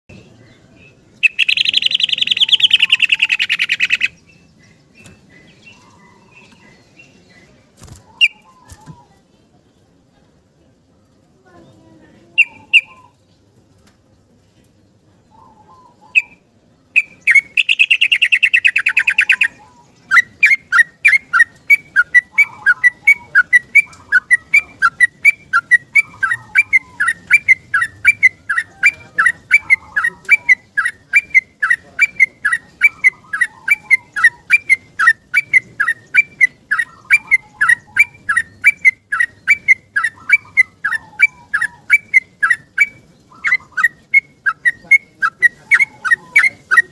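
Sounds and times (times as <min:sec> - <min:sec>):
bird trilling and chirping: 0:00.1 - 0:09.2, 0:12.3 - 0:13.2, 0:15.3 - 0:46.9.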